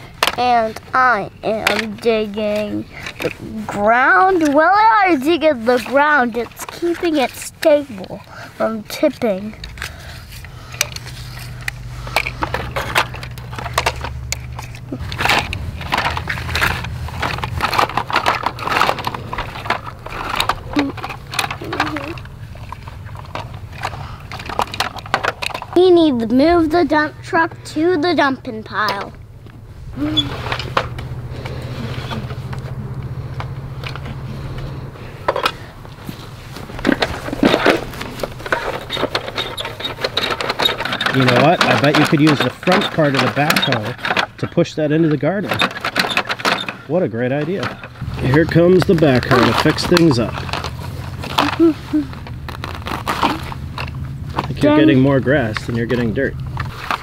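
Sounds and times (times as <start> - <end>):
plastic clicks and leaf rustles: 0.0 - 27.4, 28.0 - 57.0
toy digger bucket scraping soil: 0.0 - 28.9, 34.1 - 57.0
low steady hum: 0.0 - 57.0.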